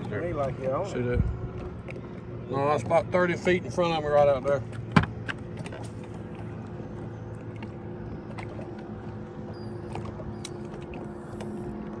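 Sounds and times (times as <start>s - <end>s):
electric boat motor humming: 0.0s - 12.0s.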